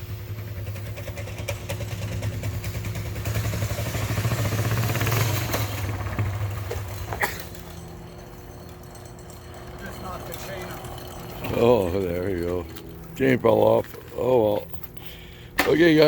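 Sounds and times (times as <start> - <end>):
mini bike engine running: 0.0 - 14.9.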